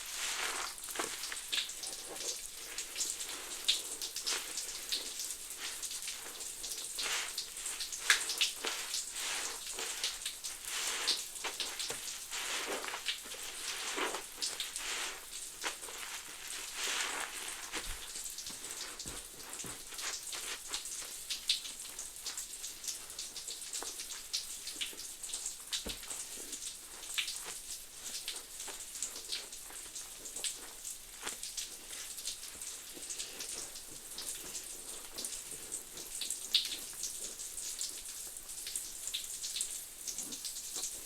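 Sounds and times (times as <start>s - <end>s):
soap suds crackling in sponge: 0.0s - 41.0s.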